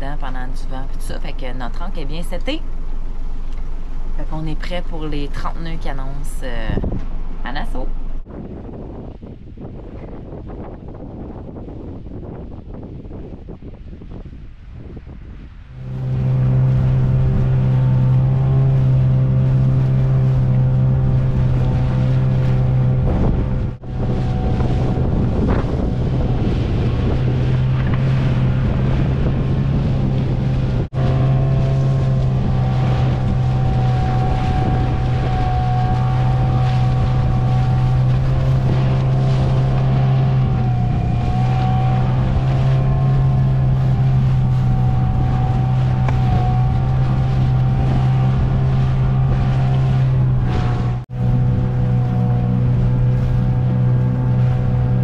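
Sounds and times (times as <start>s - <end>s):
outboard motor running: 0.0s - 8.3s, 15.7s - 55.0s
water rushing past hull: 0.0s - 55.0s
wind buffeting microphone: 0.0s - 55.0s.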